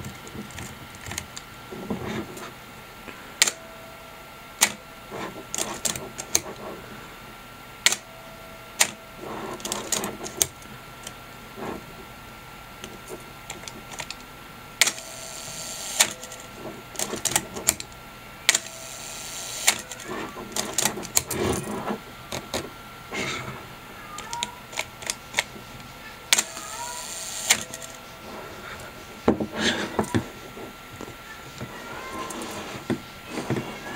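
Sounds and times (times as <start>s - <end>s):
faint hum: 0.0s - 33.9s.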